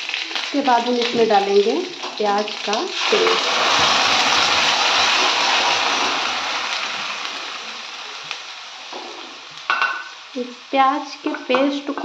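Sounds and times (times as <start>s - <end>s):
paste sizzling in hot fat: 0.0s - 12.0s.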